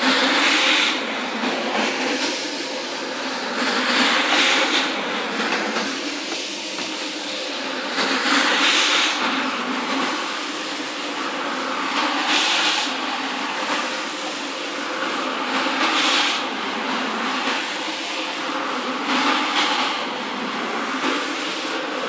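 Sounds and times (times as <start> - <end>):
floor scrubber motor hum: 0.0 - 22.0.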